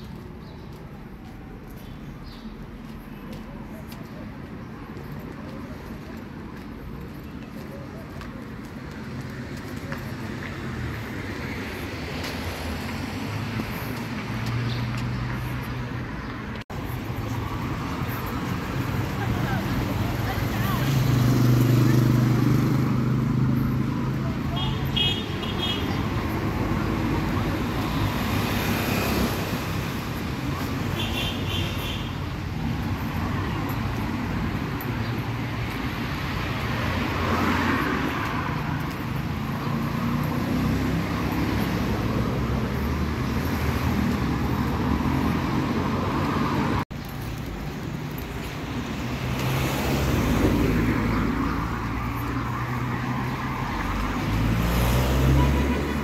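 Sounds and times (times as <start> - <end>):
street traffic passing: 0.0 - 56.0.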